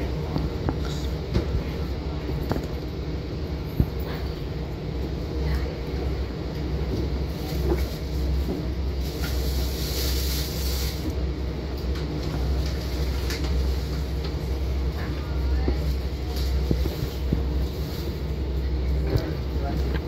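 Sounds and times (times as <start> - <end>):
train low rumble: 0.0 - 20.0.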